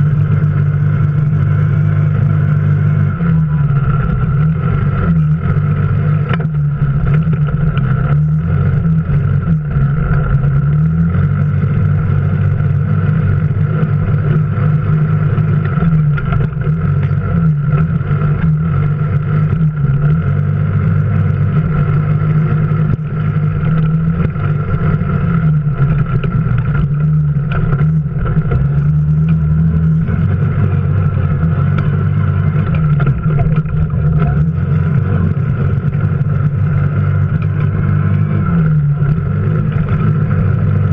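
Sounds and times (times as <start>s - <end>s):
high whine: 0.0s - 40.9s
off-road vehicle engine running: 0.0s - 40.9s.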